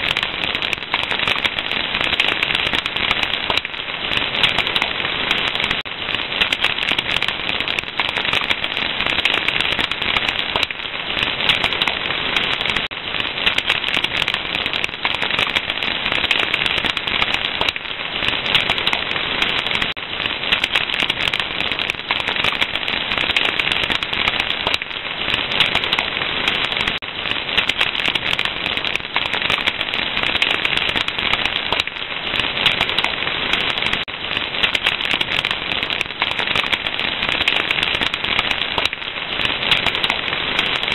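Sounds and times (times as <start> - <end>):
fire crackling with pops: 0.0 - 40.9.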